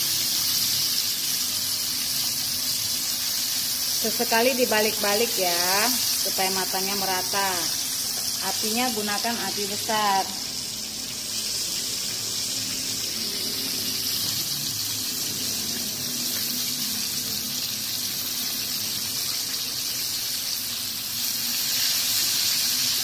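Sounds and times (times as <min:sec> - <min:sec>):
fish deep-frying in hot oil: 0:00.0 - 0:23.0.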